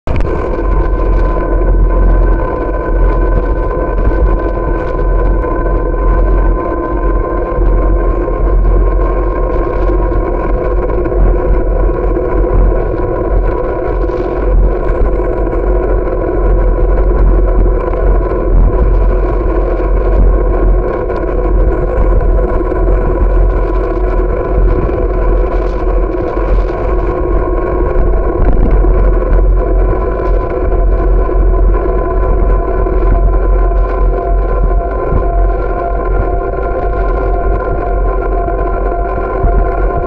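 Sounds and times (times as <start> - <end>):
steady hum: 0.0 - 40.0
wind buffeting microphone: 0.0 - 40.0
bicycle tyre rumble on asphalt: 0.1 - 40.0.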